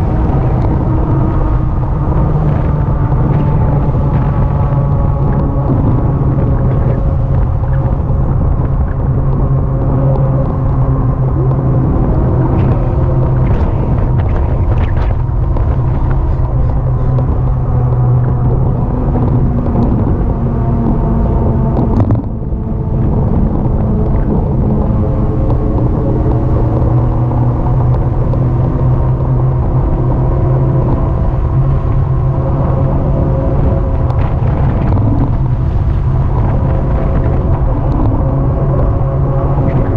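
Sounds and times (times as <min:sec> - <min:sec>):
constant motor hum: 0:00.0 - 0:39.9
wind and road noise: 0:00.0 - 0:39.9.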